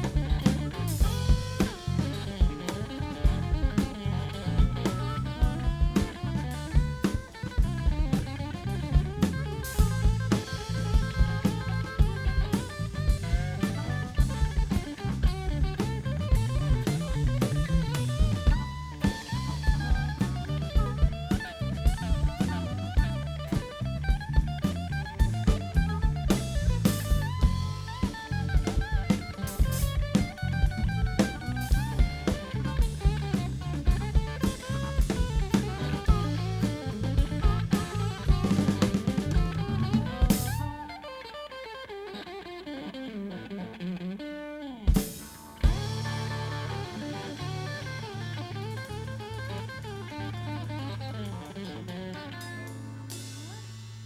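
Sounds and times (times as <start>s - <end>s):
drum-kit beat: 0.0s - 40.9s, 44.9s - 51.6s, 52.3s - 54.0s
bending electric guitar line: 0.0s - 54.0s
blues-rock band playing: 0.0s - 54.0s.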